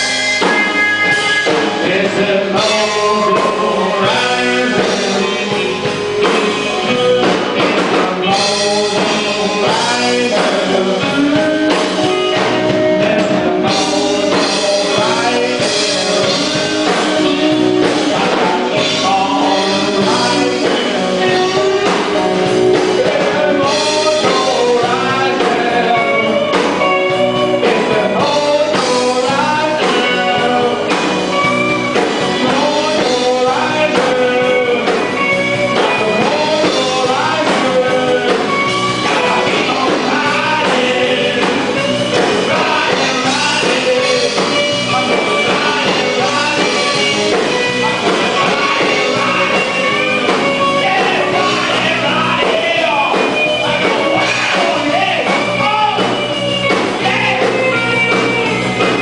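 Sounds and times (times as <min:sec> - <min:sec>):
rock song with vocals: 0:00.0 - 0:59.0.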